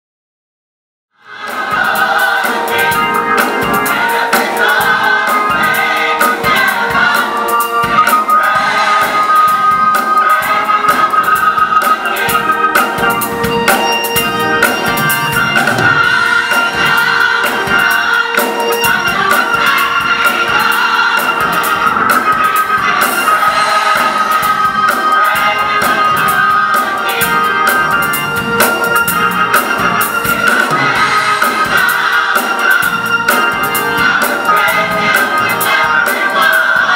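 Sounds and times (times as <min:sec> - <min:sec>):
drums: 0:01.2 - 0:36.9
gospel choir singing: 0:01.2 - 0:36.9
organ: 0:01.2 - 0:36.9.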